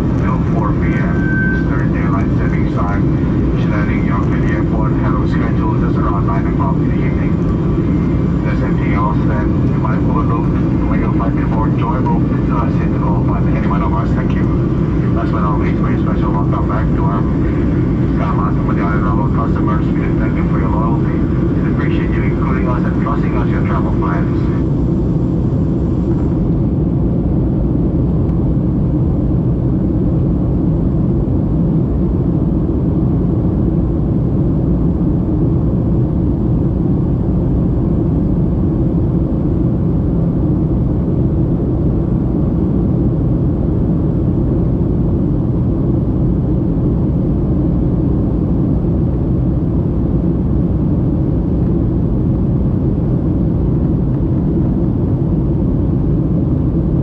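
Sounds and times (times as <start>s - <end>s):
jet airliner cabin rumble: 0.0s - 57.0s.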